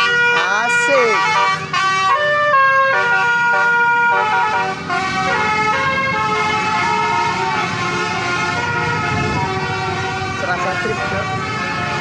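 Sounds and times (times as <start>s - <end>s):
multi-tone horn playing a tune: 0.0s - 12.0s.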